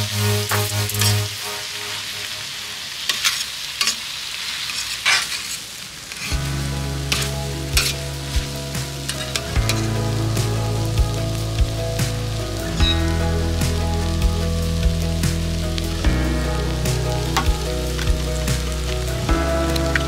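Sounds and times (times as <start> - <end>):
background music: 0.0 - 2.8, 6.3 - 20.0
noodles sizzling on griddle: 0.0 - 20.0.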